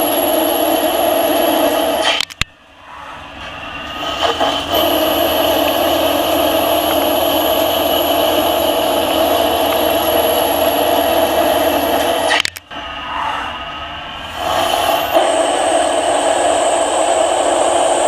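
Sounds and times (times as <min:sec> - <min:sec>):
high steady whine: 0:00.0 - 0:18.0
lathe machine hum: 0:02.7 - 0:18.0.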